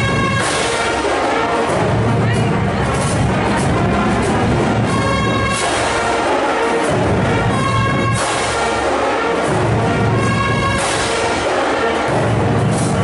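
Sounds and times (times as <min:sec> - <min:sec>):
loud held brass chord: 0:00.0 - 0:13.0
marching band playing: 0:00.0 - 0:13.0.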